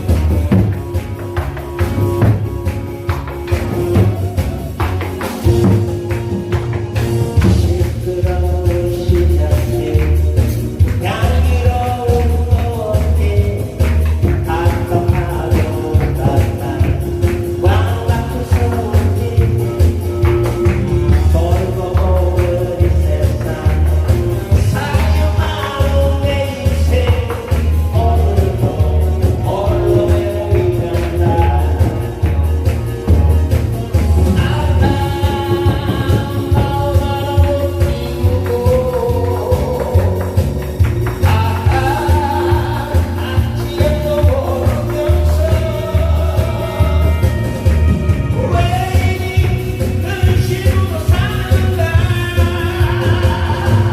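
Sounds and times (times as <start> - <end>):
backing music with bass beat: 0.0 - 53.9
person singing: 0.0 - 53.9.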